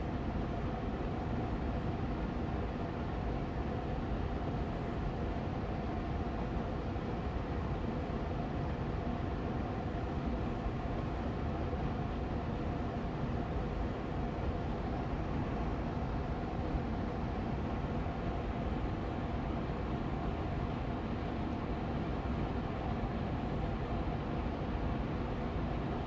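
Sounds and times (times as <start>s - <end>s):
air purifier fan humming: 0.0s - 26.0s.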